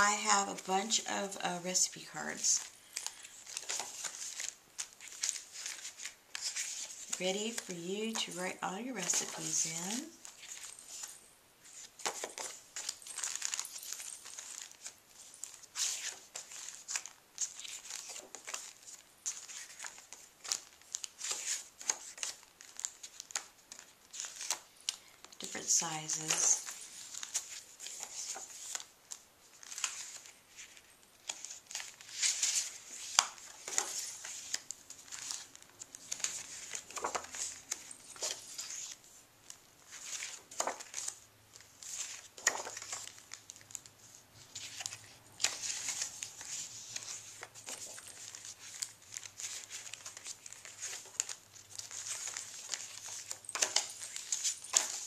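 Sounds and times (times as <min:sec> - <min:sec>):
paper rustling and crinkling: 0:00.0 - 0:55.0.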